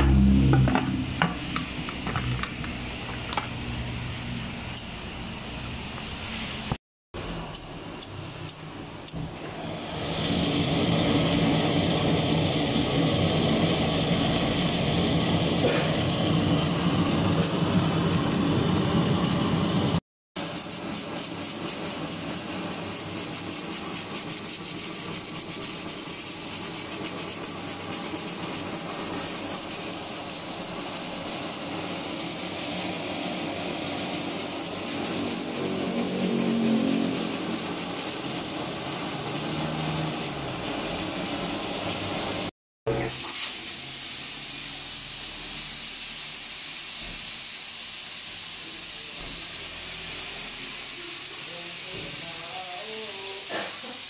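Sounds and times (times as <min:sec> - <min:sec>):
gas burner rushing: 0:00.0 - 0:06.8, 0:08.0 - 0:54.0
pressure cooker hissing: 0:07.5 - 0:54.0.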